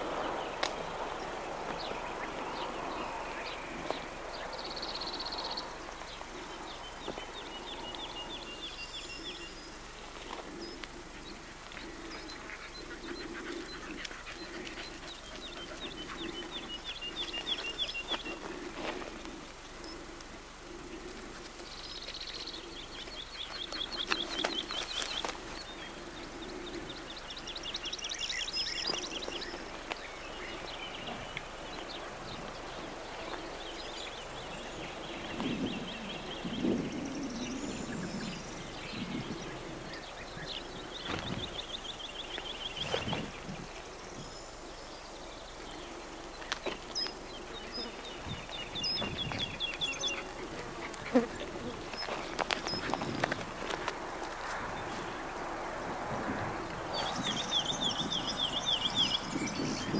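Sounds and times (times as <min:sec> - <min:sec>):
low pulsing bird call: 0:00.0 - 0:53.3.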